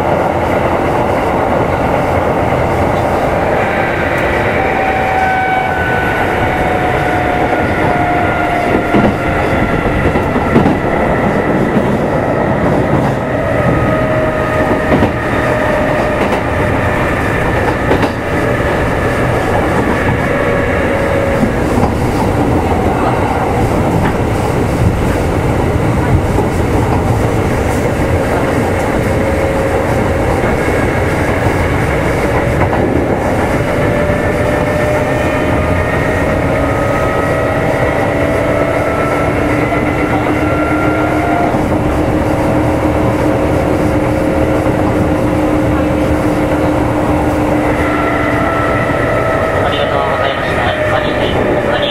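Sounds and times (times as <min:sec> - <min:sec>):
steady train rumble: 0:00.0 - 0:51.9
train motor and gear whine: 0:00.0 - 0:51.9.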